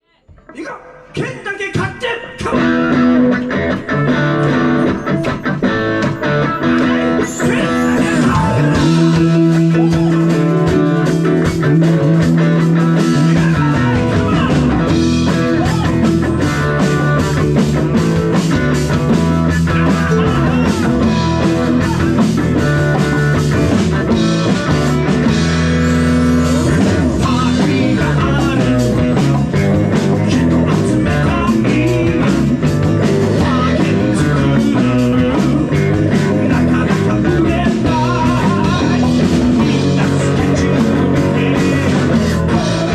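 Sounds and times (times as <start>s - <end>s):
rock band playing live: 0.3s - 42.9s.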